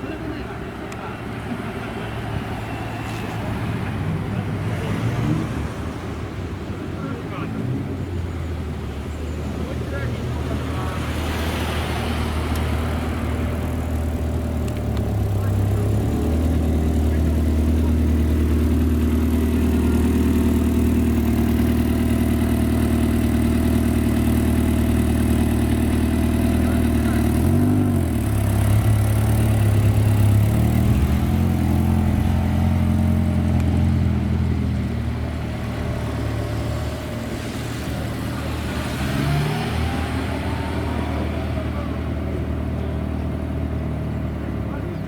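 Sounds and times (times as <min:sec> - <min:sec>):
car engine idling: 0:05.6 - 0:45.0.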